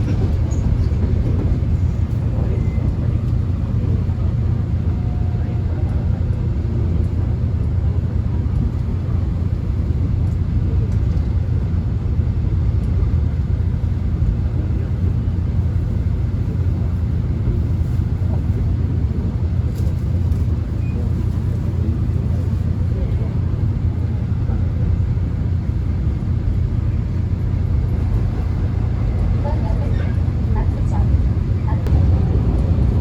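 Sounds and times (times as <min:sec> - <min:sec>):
subway train rumbling on track: 0:00.0 - 0:33.0.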